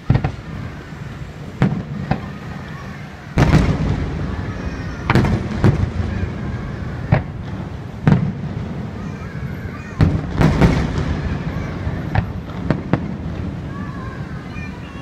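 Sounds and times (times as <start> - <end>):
firework shells booming: 0.0 - 14.9.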